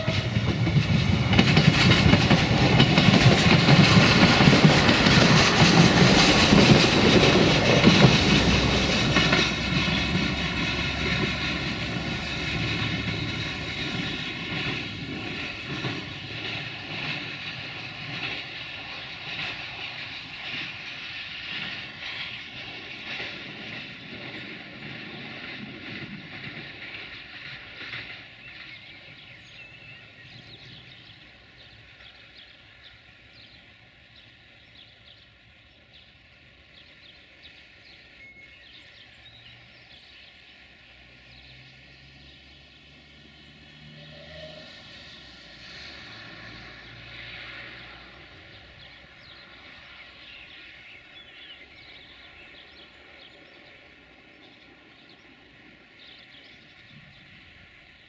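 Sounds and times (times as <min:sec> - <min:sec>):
diesel train engine drone: 0:00.0 - 0:58.0
train wheel rumble: 0:00.0 - 0:58.0.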